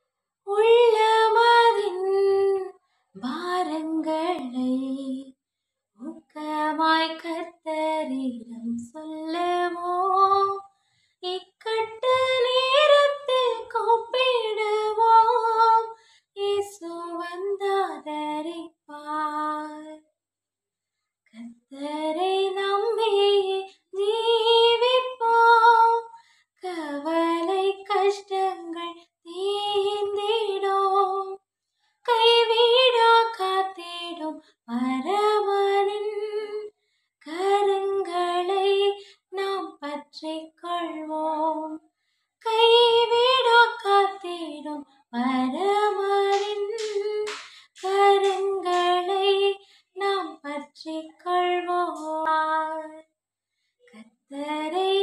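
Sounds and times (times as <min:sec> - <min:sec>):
woman singing unaccompanied: 0:00.5 - 0:05.3, 0:06.0 - 0:20.0, 0:21.4 - 0:31.4, 0:32.1 - 0:41.8, 0:42.4 - 0:53.0, 0:53.9 - 0:55.0.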